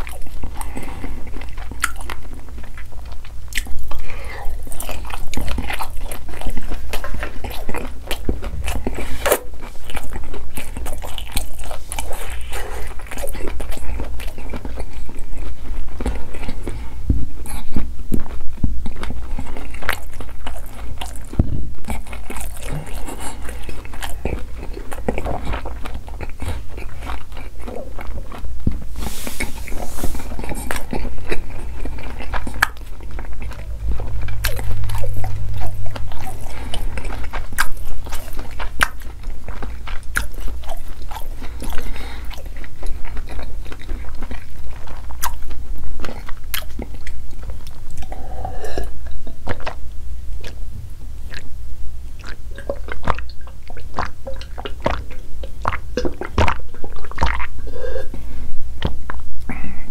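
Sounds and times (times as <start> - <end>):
chewing with wet mouth clicks: 0.0 - 50.6, 51.2 - 57.6, 58.8 - 59.6.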